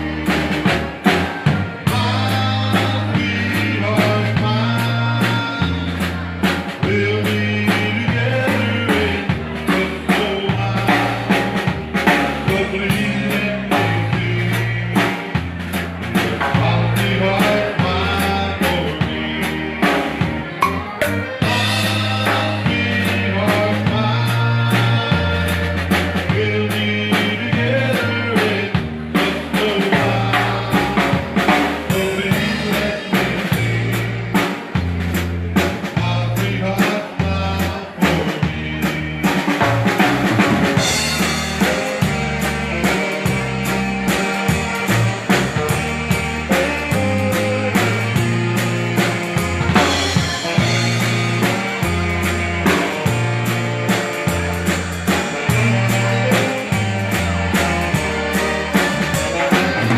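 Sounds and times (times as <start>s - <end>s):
bass line: 0.0s - 59.9s
dance band playing: 0.0s - 59.9s
drum kit beat: 0.0s - 59.9s.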